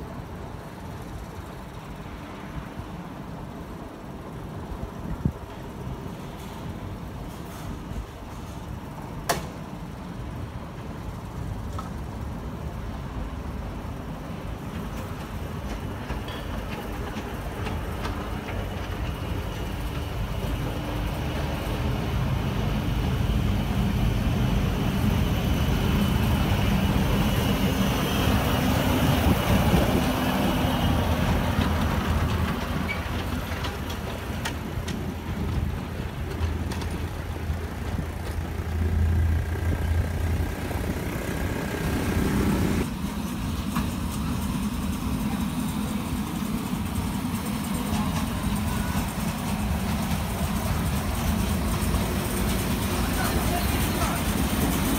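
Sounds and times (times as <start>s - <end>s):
miniature locomotive running on rails: 0.0s - 54.9s.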